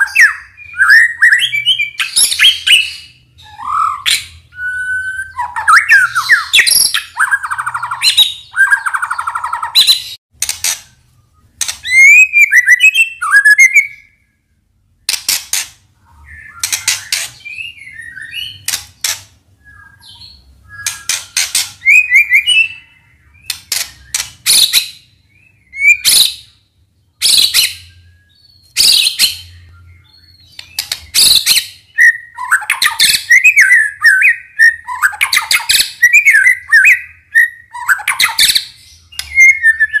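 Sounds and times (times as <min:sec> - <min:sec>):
songbird singing whistles and clicks: 0:00.0 - 0:10.6, 0:11.5 - 0:14.1, 0:16.4 - 0:26.5, 0:27.2 - 0:40.0.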